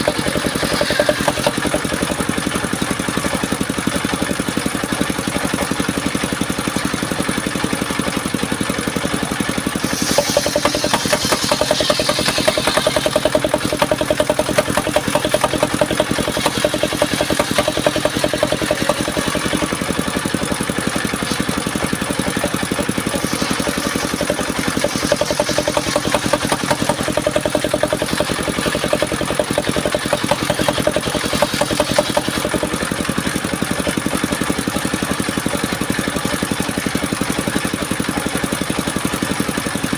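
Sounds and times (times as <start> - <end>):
saw blade cutting wood: 0.0 - 35.5
sawmill engine pulsing: 0.0 - 39.9.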